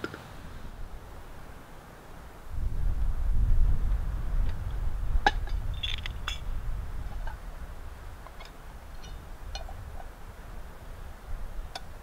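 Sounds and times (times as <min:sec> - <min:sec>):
wind rumble on microphone: 0:00.3 - 0:12.0.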